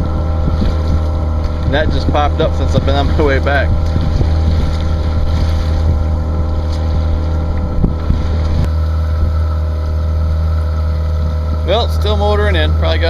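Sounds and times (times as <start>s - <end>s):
boat motor droning: 0.0s - 13.0s.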